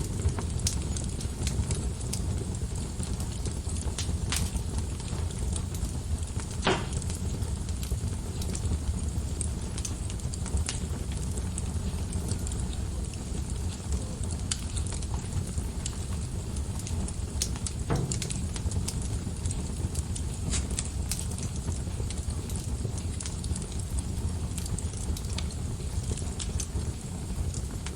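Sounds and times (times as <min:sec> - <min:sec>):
fire pops: 0:00.0 - 0:27.9
wood fire crackling: 0:00.0 - 0:27.9.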